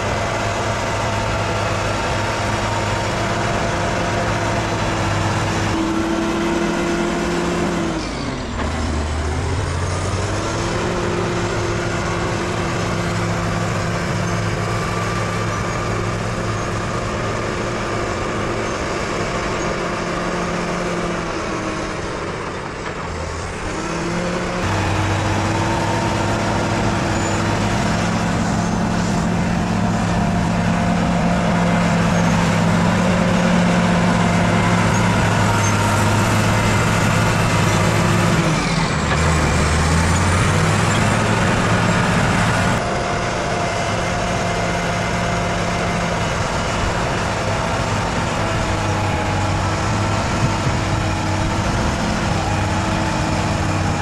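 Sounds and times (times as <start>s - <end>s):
bulldozer engine at high revs: 0.0s - 54.0s.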